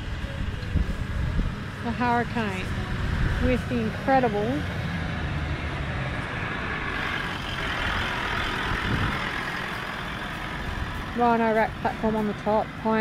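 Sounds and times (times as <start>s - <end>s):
vehicle driving past on dirt: 1.5s - 12.4s.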